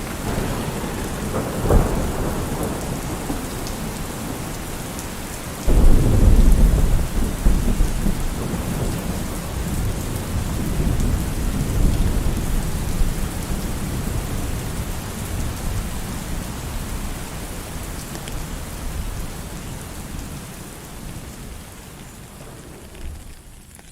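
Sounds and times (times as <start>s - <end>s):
thunder rumbling: 0.0s - 17.4s, 18.8s - 23.9s
rain falling: 0.0s - 23.9s.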